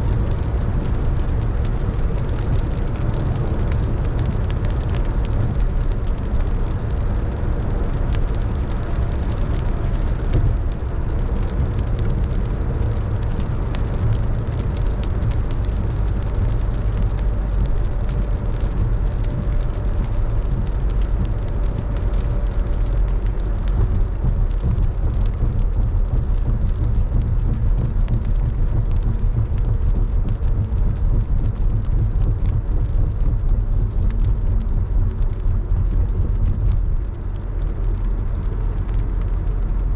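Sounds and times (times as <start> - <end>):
car road rumble: 0.0 - 39.9
rain ticking: 0.0 - 39.9.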